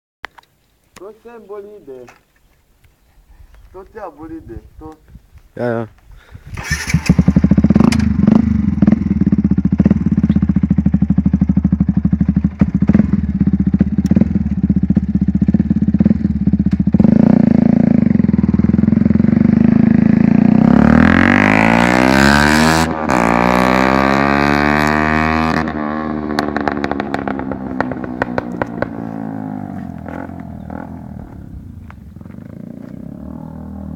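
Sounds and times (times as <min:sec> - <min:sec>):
motorcycle engine idling and revving: 0:06.5 - 0:33.9
motorcycle accelerating through gears: 0:06.6 - 0:33.9.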